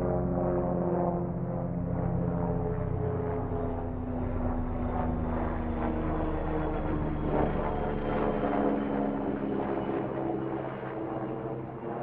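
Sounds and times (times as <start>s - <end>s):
helicopter droning overhead: 0.0s - 12.0s.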